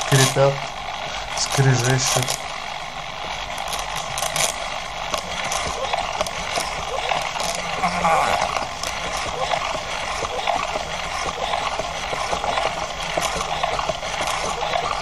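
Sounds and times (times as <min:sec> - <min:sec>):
servos creaking and grinding: 0:00.0 - 0:15.0.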